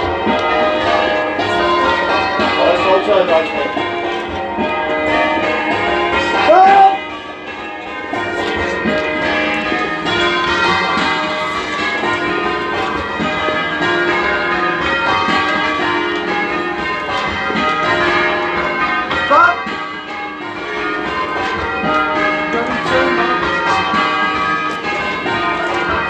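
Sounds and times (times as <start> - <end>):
church bells ringing: 0.0 - 26.0.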